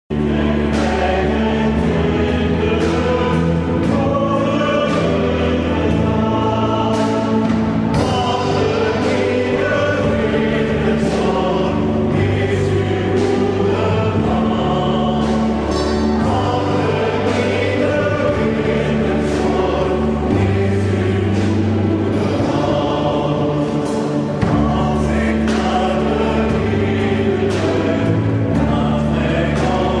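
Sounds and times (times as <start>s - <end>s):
choir singing a church song: 0.1s - 30.0s.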